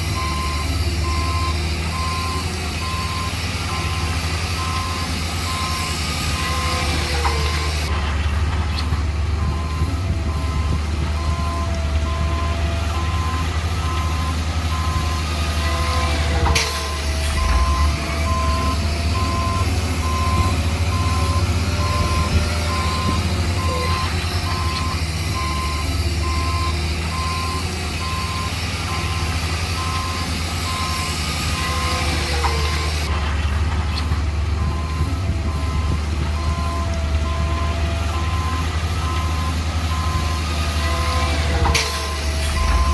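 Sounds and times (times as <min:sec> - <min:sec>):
vehicle reversing alarm beeping: 0:00.0 - 0:07.9, 0:08.8 - 0:33.1, 0:33.9 - 0:42.9
diesel engine drone: 0:00.0 - 0:42.9.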